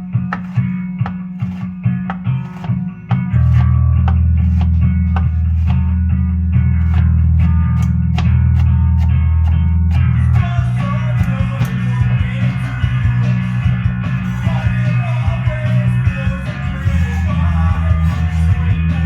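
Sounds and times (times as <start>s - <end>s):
bass guitar: 0.0s - 19.0s
picked electric guitar: 0.0s - 19.0s
punk rock band playing: 0.0s - 19.0s.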